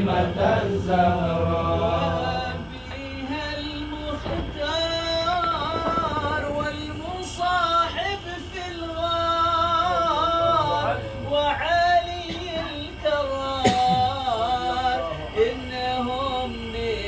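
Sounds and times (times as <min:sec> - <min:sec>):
person chanting devotional song: 0:00.0 - 0:17.0.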